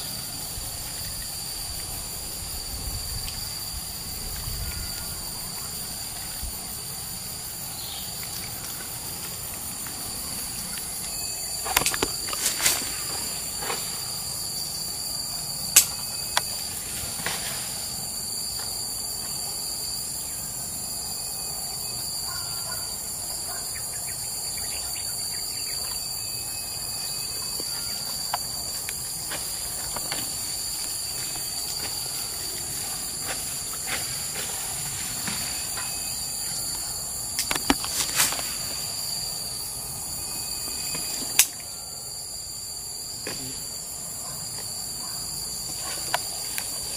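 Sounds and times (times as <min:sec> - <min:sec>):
forest insect chorus drone: 0:00.0 - 0:46.9.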